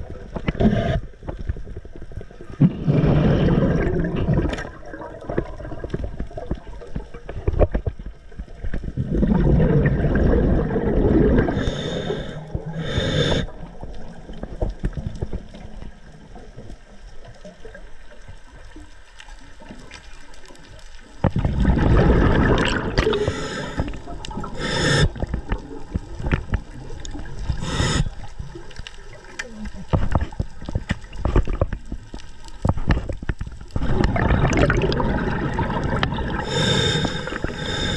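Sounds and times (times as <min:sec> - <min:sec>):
underwater rushing and sloshing: 0:00.0 - 0:37.9.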